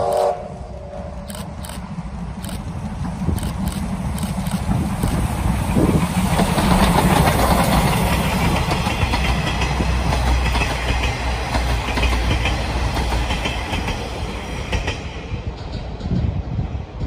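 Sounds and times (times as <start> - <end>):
coaches rolling on rails: 0.0 - 17.0
steam locomotive passing: 0.0 - 17.0.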